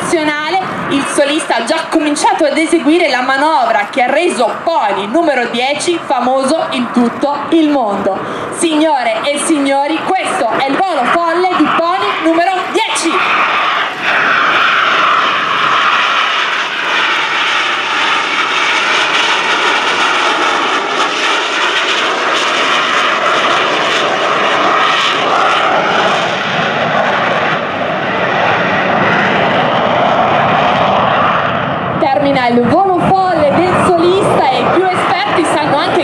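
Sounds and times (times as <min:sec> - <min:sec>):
loud jet noise: 0:00.0 - 0:36.0.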